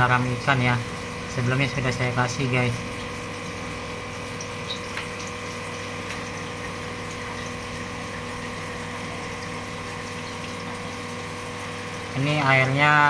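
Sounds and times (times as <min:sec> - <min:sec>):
pump electric hum: 0:00.0 - 0:13.0
water bubbling: 0:00.8 - 0:12.2.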